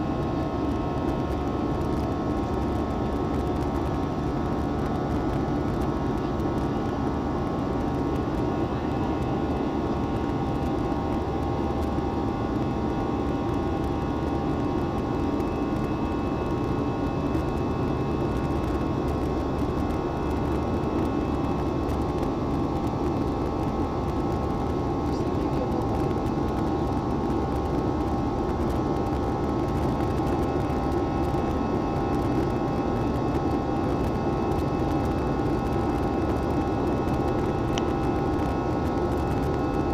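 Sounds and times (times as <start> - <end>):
jet engine drone: 0.0 - 39.9
steady tonal whine: 0.0 - 39.9.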